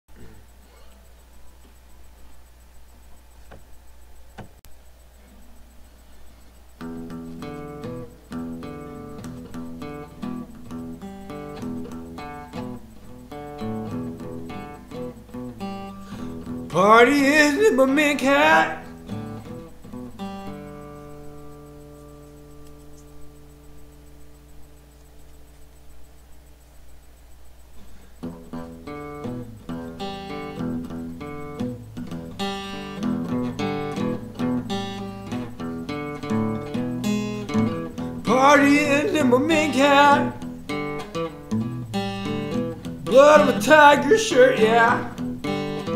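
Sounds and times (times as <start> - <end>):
acoustic guitar chords: 6.8 - 26.1, 27.8 - 45.9.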